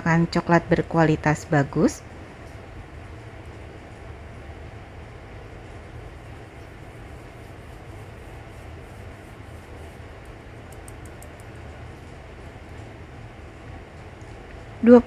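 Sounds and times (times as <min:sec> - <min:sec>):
low rumbling hum with hiss: 0:00.0 - 0:15.0.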